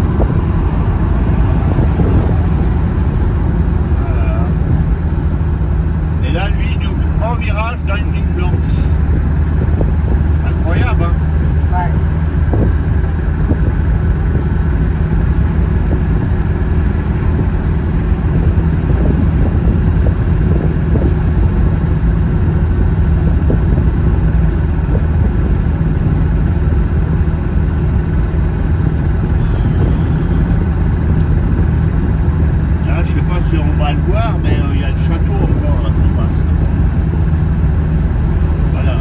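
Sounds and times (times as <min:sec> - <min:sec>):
engine and road noise in car: 0:00.0 - 0:39.0.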